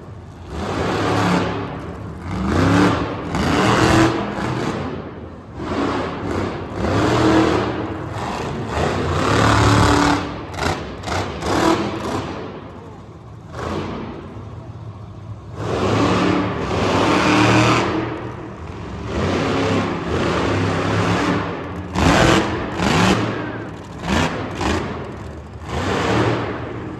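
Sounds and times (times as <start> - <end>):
monster truck engine revving: 0.0 - 26.9.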